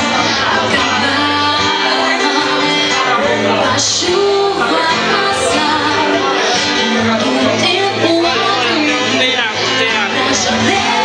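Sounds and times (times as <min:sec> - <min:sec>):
strummed acoustic guitars: 0:00.0 - 0:11.0
woman singing into microphone: 0:00.0 - 0:11.0.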